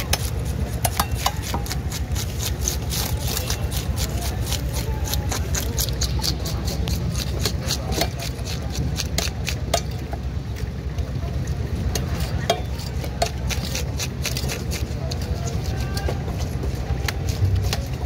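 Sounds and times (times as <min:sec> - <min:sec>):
fish scaling clicks and scrapes: 0:00.0 - 0:09.9, 0:12.0 - 0:18.0
low background rumble: 0:00.0 - 0:18.0.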